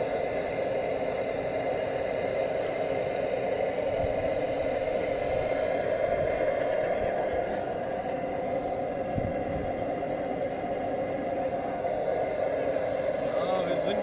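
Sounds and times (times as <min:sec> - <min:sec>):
blowlamp burning: 0:00.0 - 0:14.0.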